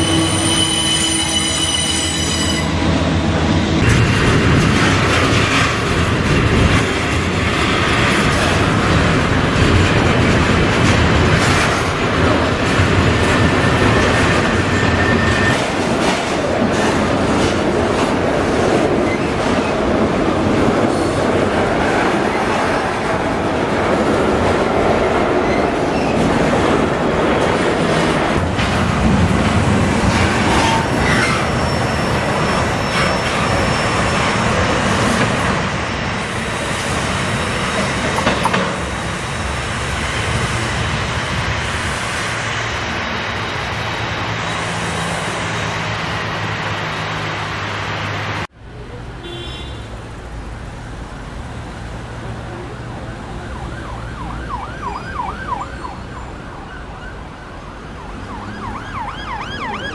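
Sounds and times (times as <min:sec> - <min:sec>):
freight train wheels on rails: 0:00.0 - 0:53.3.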